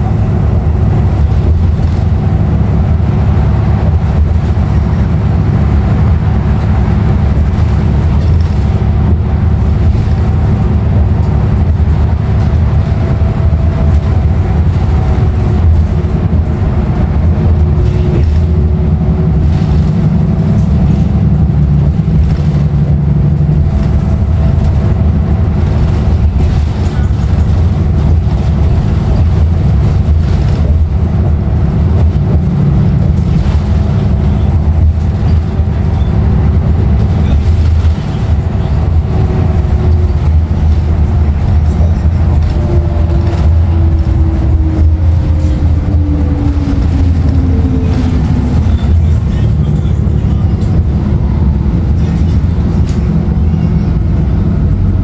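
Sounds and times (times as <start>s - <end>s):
bus diesel engine running: 0.0s - 55.0s
road noise: 0.0s - 55.0s.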